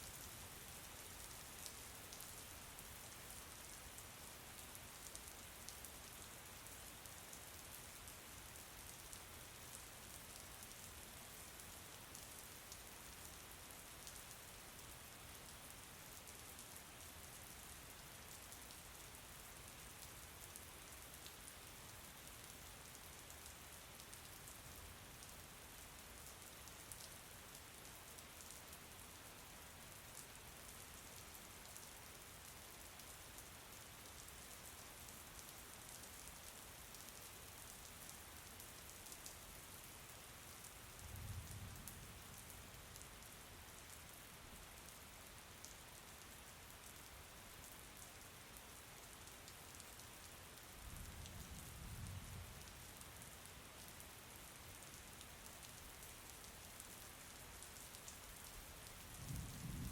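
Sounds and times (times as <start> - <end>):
faint steady rain: 0.0 - 59.9.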